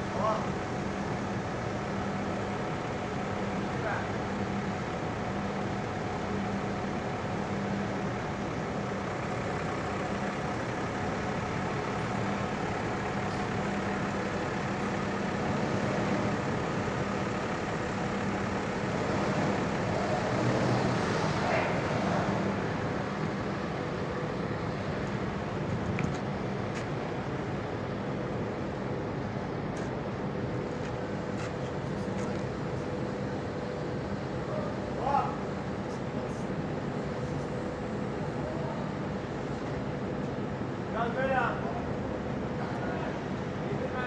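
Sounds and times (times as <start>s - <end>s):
low machinery hum: 0.0s - 44.0s.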